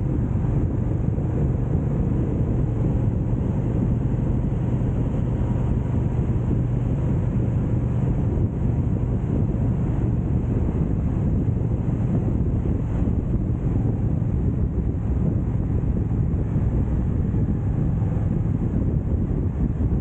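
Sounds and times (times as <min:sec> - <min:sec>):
motorcycle engine cruising: 0:00.0 - 0:20.0
wind noise on microphone: 0:00.0 - 0:20.0.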